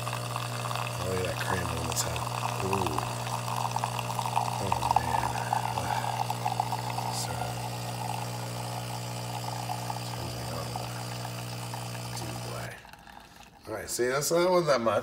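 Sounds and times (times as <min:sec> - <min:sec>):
espresso machine pump hum: 0:00.0 - 0:13.6
coffee streaming into mug: 0:00.0 - 0:14.0.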